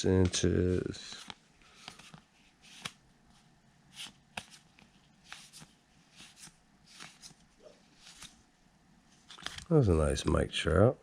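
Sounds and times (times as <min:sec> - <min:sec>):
cards flipped by hand: 0:00.2 - 0:08.4, 0:09.1 - 0:09.7.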